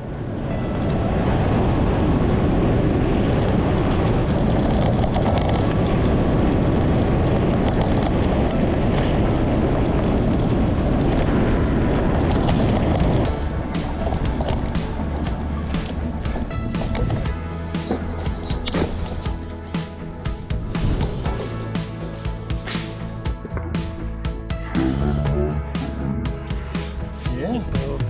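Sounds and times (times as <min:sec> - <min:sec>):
wind rush on microphone: 0:00.0 - 0:28.0.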